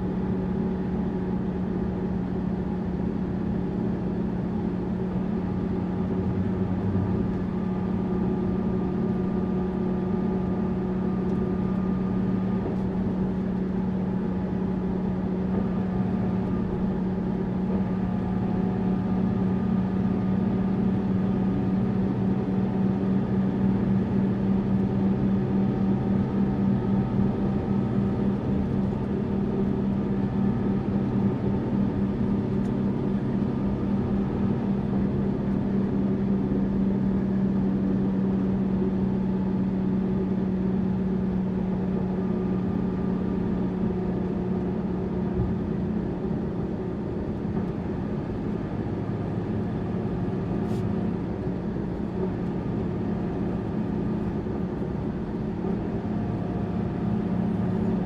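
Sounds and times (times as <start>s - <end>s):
bus engine running: 0.0s - 58.0s
road noise: 0.0s - 58.0s.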